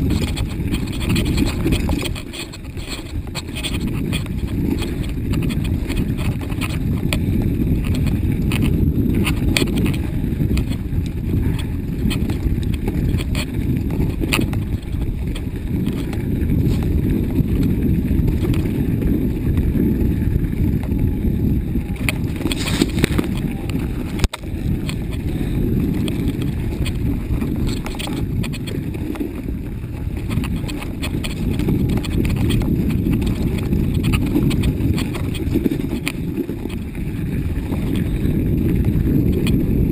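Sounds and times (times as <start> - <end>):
bike knocking and rattling: 0.0 - 39.9
bike tyres rolling on snow: 0.0 - 39.9
wind buffeting microphone: 0.0 - 39.9.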